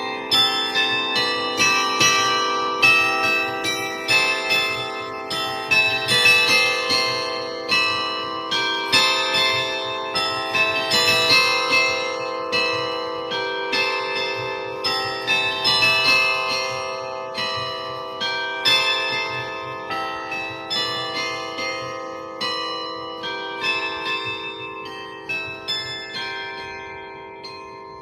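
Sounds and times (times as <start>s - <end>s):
carillon bells playing slow melody: 0.0s - 28.0s.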